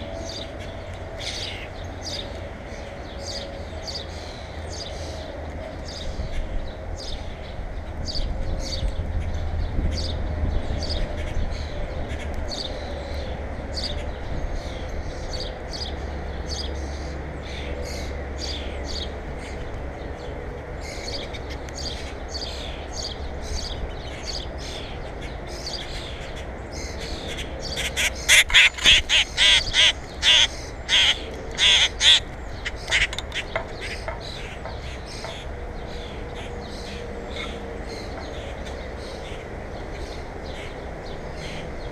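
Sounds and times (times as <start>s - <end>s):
birds calling: 0.0s - 41.9s.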